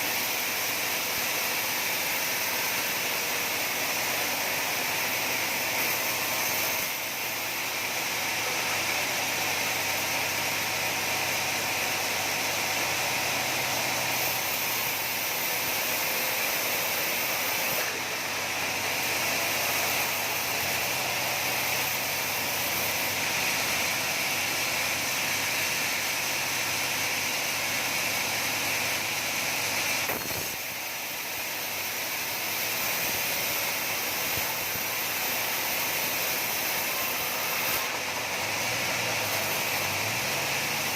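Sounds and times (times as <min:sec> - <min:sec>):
sawmill saw running: 0:00.0 - 0:40.9.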